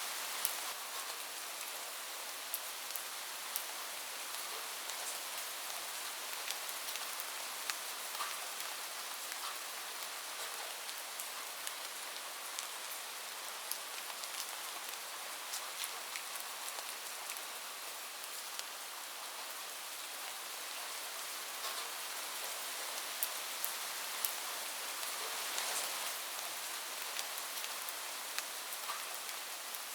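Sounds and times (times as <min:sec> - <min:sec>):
heavy rain on a roof: 0:00.0 - 0:29.9.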